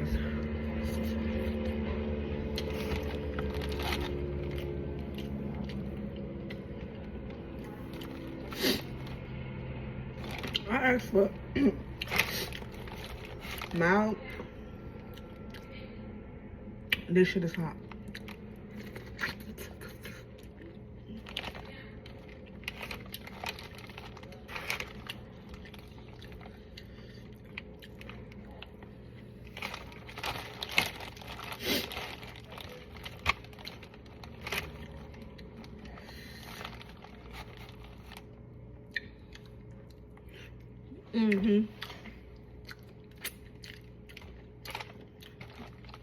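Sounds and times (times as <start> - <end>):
close-up eating crunches: 0.3 - 9.3, 10.1 - 10.7, 11.9 - 13.8, 17.8 - 46.0.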